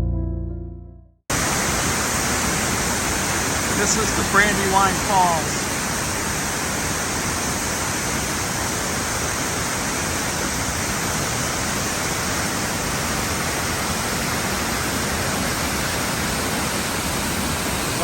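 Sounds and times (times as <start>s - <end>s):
waterfall rushing: 1.3s - 18.0s.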